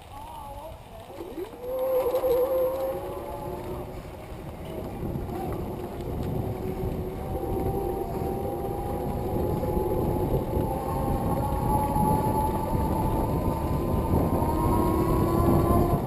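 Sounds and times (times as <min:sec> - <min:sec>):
bicycle wind and rolling noise: 0:00.0 - 0:16.0
whining hum: 0:01.3 - 0:16.0.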